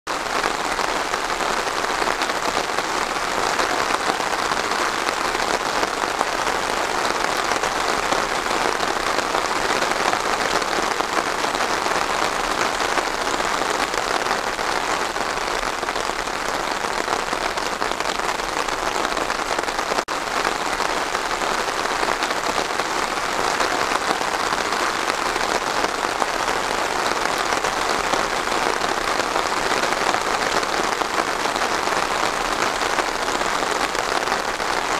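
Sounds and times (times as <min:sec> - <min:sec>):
rain falling on pine trees: 0:00.1 - 0:34.9.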